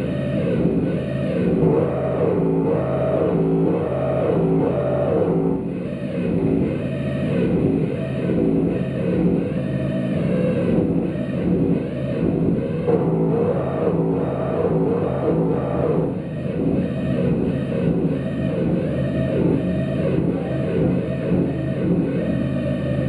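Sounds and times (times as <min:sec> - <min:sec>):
distorted electronic drone: 0:00.0 - 0:23.0.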